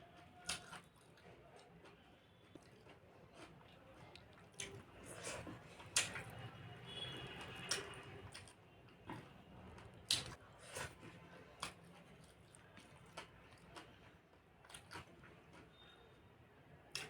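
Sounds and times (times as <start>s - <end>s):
person chewing with wet smacks: 0.1s - 15.9s.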